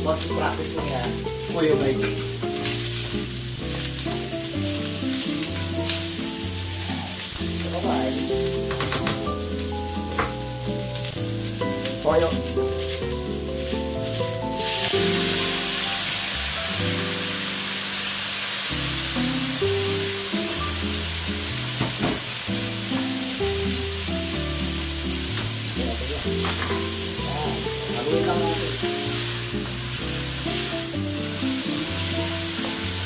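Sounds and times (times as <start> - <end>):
background music: 0.0 - 33.0
meat sizzling in a wok: 0.0 - 33.0.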